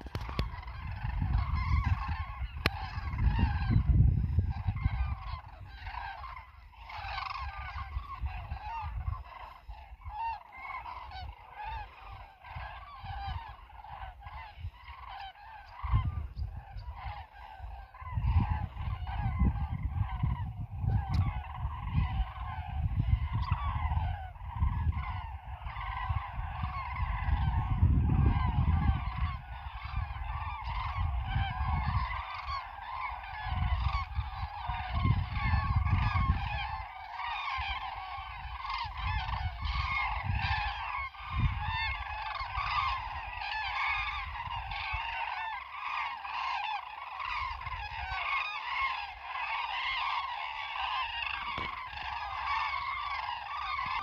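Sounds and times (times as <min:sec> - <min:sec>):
wind rumble on microphone: 0:00.0 - 0:45.4, 0:47.2 - 0:49.1, 0:51.0 - 0:54.0
flock of birds calling: 0:00.0 - 0:54.0.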